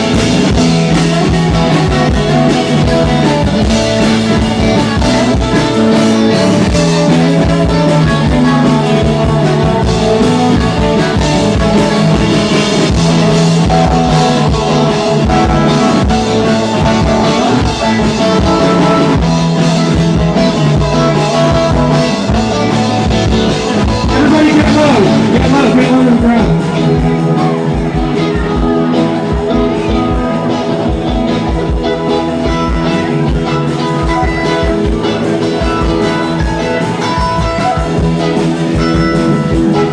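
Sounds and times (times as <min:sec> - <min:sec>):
bending guitar notes: 0:00.0 - 0:39.9
live rock band playing: 0:00.0 - 0:39.9.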